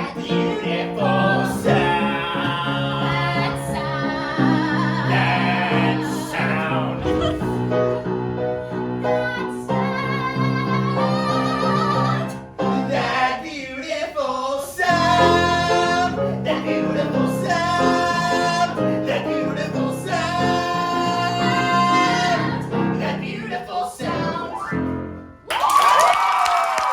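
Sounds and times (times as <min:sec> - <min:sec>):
person singing with accompaniment: 0:00.0 - 0:24.7.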